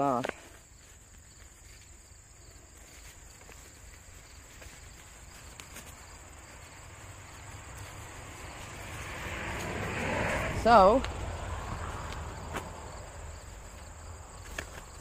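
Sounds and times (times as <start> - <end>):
crickets trilling: 0.0 - 15.0
rustling: 0.0 - 15.0.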